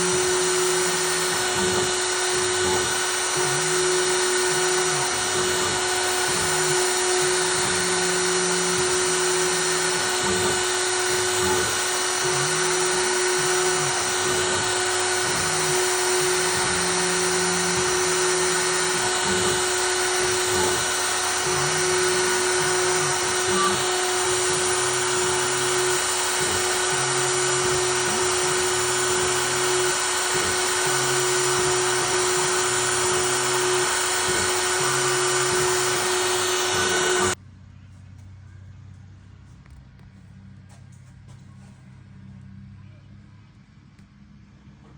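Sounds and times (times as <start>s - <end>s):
router spindle whine: 0.0s - 37.4s
stepper motors low tones: 0.0s - 44.9s.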